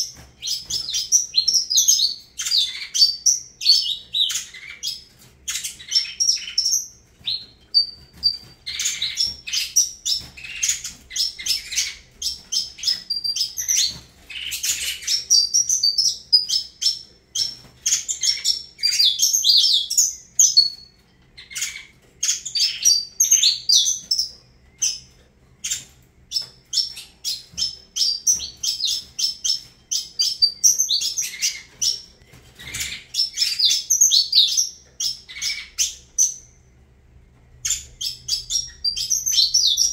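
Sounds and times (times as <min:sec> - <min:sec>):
finch singing high chirps and trills: 0:00.0 - 0:36.7, 0:37.6 - 0:39.9.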